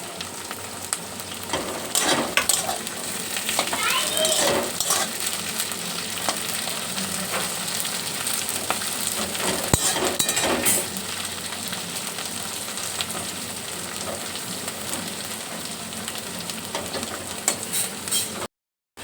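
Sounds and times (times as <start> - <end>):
vegetables sizzling in hot oil: 0.0 - 18.5.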